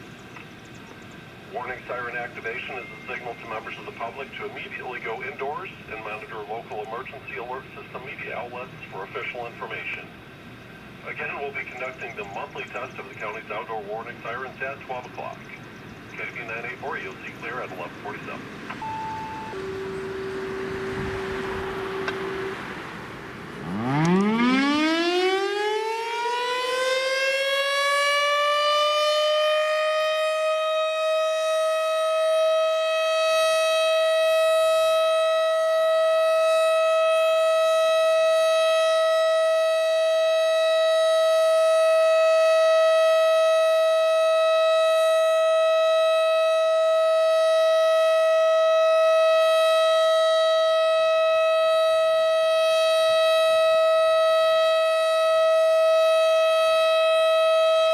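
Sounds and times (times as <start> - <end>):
warning siren wailing: 1.5 - 57.9.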